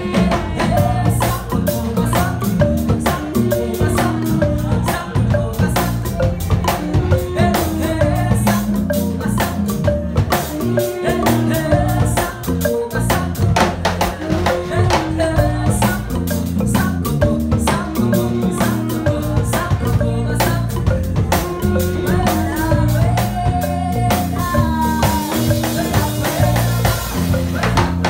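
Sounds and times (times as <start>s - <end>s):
drums and cymbal: 0.0s - 28.0s
marimba band music: 0.0s - 28.0s
women singing: 0.0s - 28.0s.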